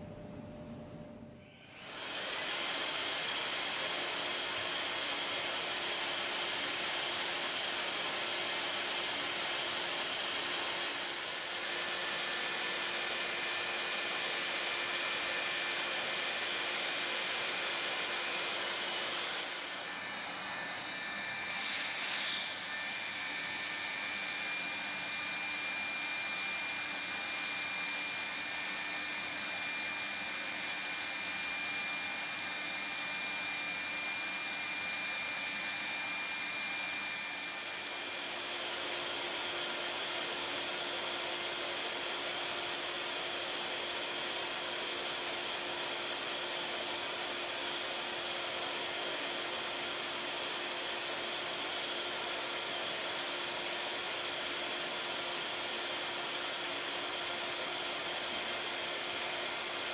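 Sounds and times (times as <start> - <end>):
hot-air blower rushing: 0.0 - 59.9.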